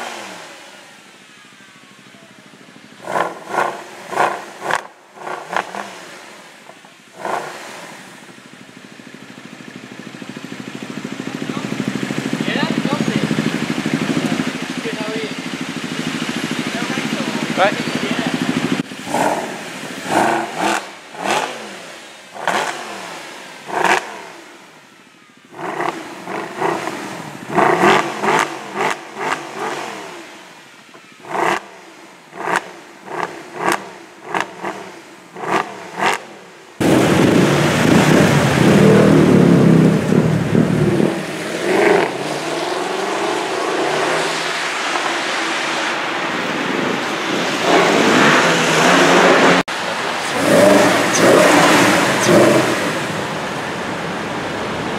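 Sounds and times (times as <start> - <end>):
car accelerating at full throttle: 0.0 - 54.9
car engine revving: 0.0 - 54.9.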